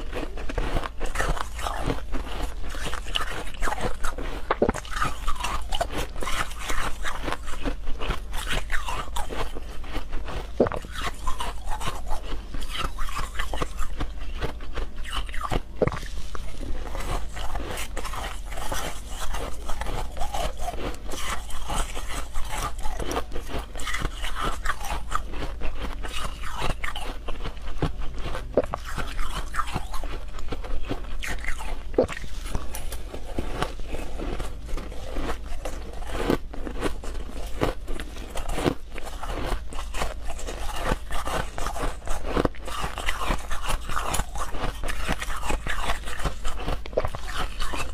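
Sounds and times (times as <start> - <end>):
crunching and chewing ice: 0.0 - 47.9
steady low hum: 0.0 - 47.9.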